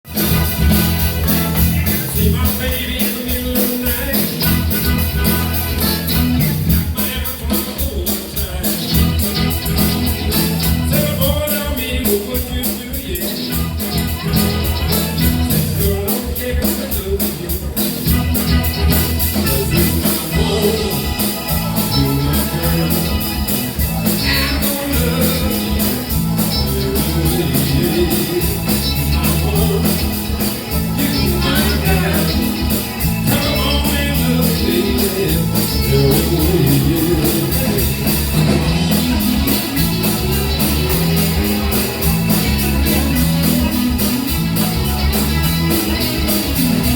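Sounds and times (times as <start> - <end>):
heavy bass line: 0.0 - 7.5, 8.5 - 46.9
live band playing: 0.0 - 46.9.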